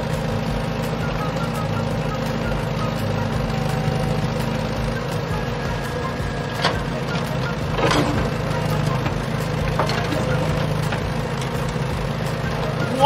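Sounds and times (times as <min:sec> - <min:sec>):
construction vehicle engine rumble: 0:00.0 - 0:13.0.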